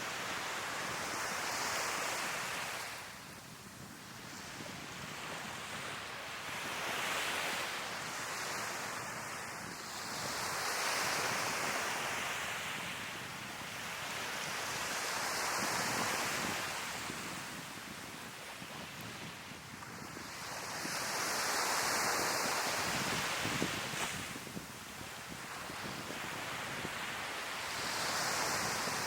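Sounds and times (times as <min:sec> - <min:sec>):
sea waves breaking on shore: 0:00.0 - 0:29.0
wind on microphone: 0:00.0 - 0:29.0.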